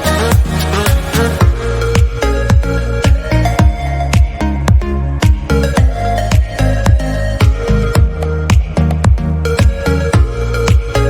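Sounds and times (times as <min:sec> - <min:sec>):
bass line: 0:00.0 - 0:11.0
electronic dance music: 0:00.0 - 0:11.0
kick drum beat: 0:00.3 - 0:11.0.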